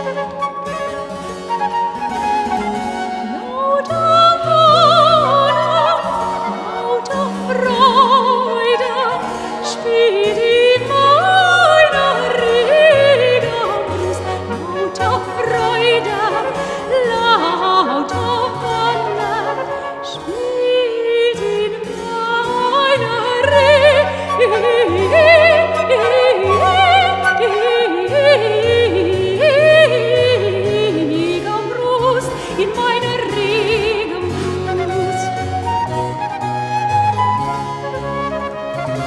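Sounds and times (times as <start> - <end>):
flute melody: 0.0 - 39.0
violin melody: 0.0 - 39.0.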